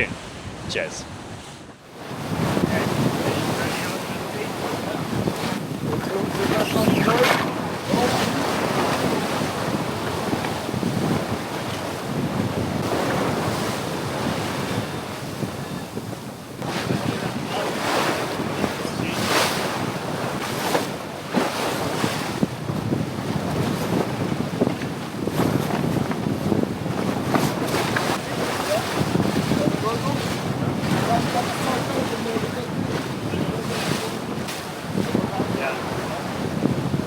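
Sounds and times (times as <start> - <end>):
strong wind buffeting microphone: 0.0 - 37.0
waves rushing along a hull: 0.0 - 37.0.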